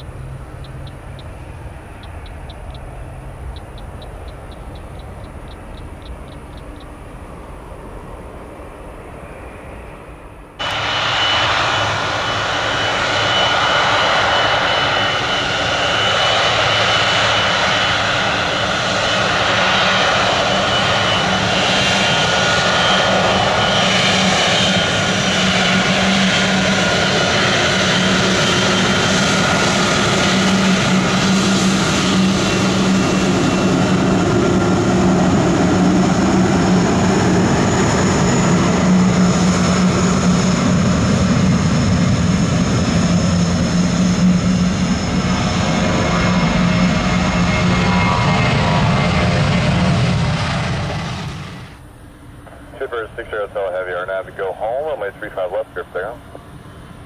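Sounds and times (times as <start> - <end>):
jet engine roar with high whine: 0.0 - 57.0.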